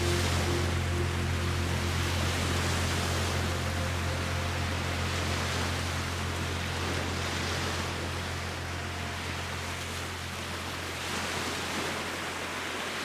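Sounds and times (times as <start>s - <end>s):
constant low hum: 0.0s - 13.0s
waves washing onto sand: 0.0s - 13.0s.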